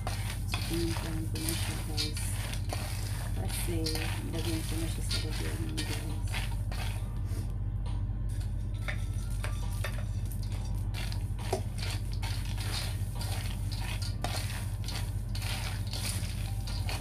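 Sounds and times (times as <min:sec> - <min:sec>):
spatula scraping and rattling peanuts: 0:00.0 - 0:07.1, 0:09.8 - 0:17.0
steady low hum: 0:00.0 - 0:17.0.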